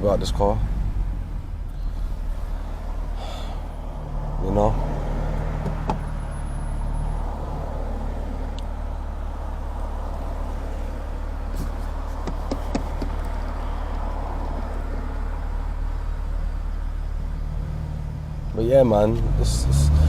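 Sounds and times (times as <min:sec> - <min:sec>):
car engine droning at cruise: 0:00.0 - 0:20.0.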